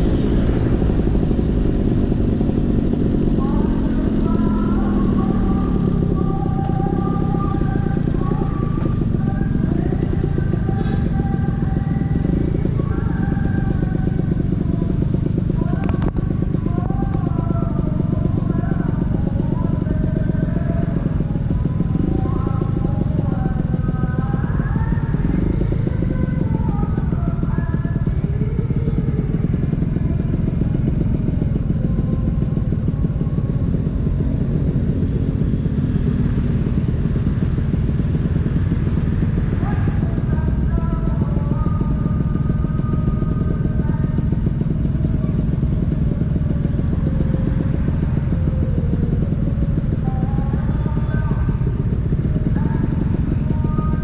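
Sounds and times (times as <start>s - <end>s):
scooter engine exhaust note: 0.0s - 54.0s.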